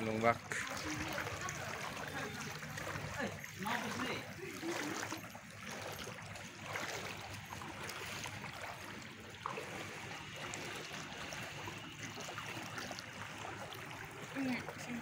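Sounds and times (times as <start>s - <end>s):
floodwater sloshing: 0.0s - 15.0s
small water splashes: 0.0s - 15.0s.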